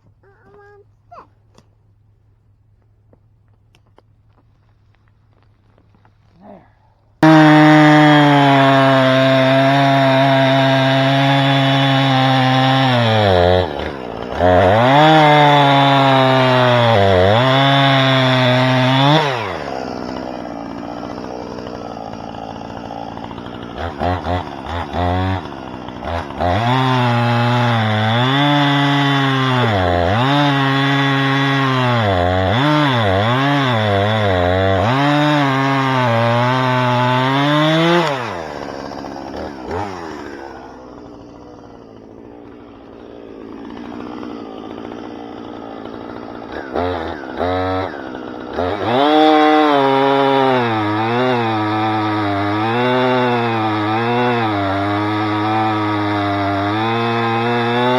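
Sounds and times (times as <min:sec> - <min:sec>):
chainsaw cutting wood: 0:07.1 - 0:57.9.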